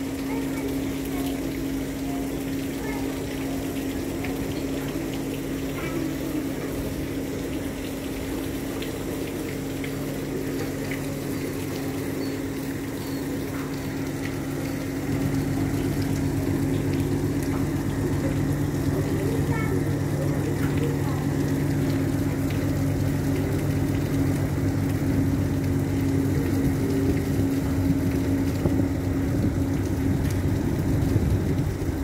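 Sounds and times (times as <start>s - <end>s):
boat diesel engine droning: 0.0s - 32.0s.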